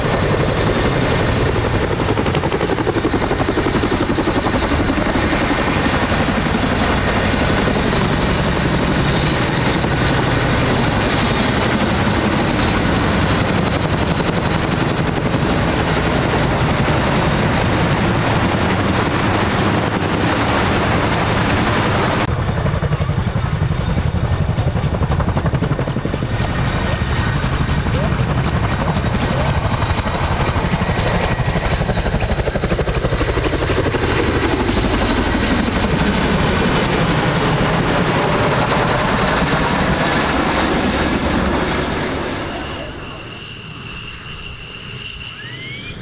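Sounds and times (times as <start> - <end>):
helicopter rotor beat: 0.0 - 46.0.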